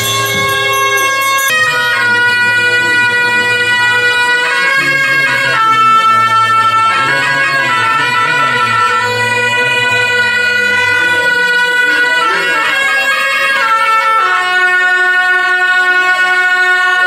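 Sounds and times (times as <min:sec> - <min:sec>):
reedy wind instrument melody: 0:00.0 - 0:17.0.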